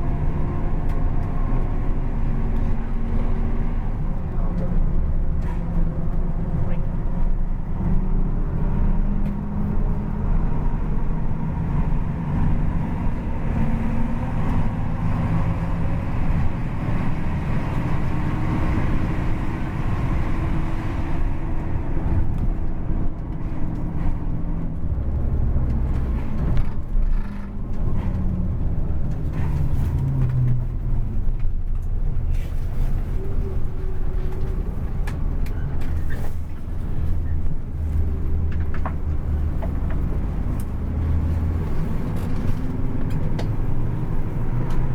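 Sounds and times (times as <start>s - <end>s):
bus diesel engine with loud exhaust: 0.0s - 44.9s.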